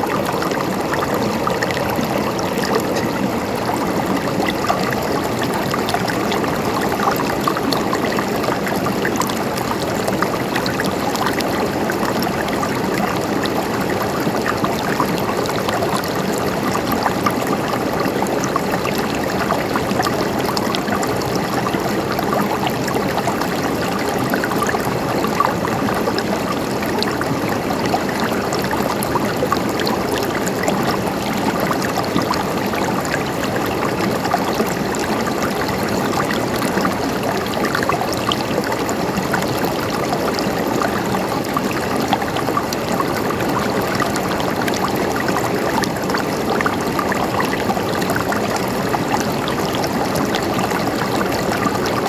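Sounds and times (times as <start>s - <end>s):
stream gurgling over rocks: 0.0s - 52.0s.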